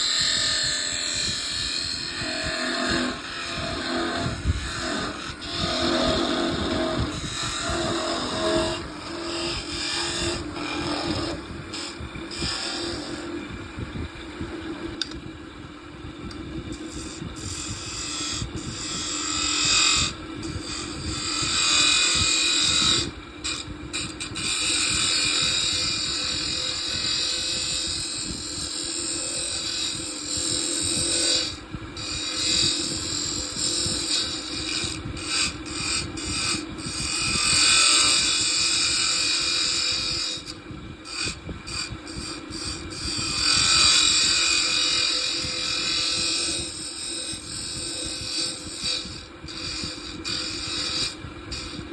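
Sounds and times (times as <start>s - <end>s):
wood lathe humming: 0.0s - 14.0s, 16.6s - 51.9s
tool scraping spinning wood: 0.0s - 14.8s, 16.2s - 51.9s.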